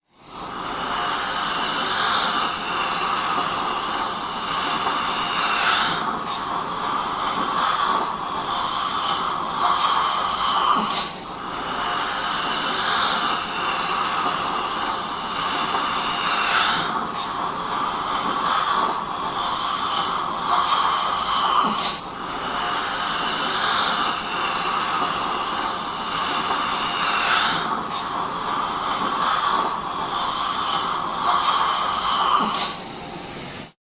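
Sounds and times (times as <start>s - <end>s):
dental suction hiss: 0.1s - 33.8s.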